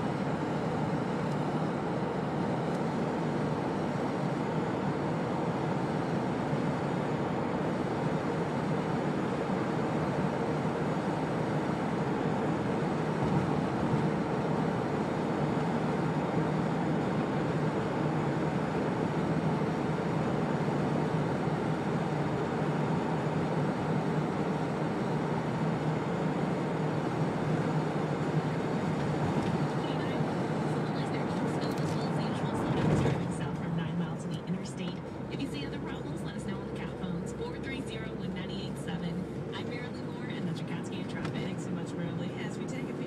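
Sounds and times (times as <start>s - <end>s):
car road and tyre noise: 0.0s - 43.0s.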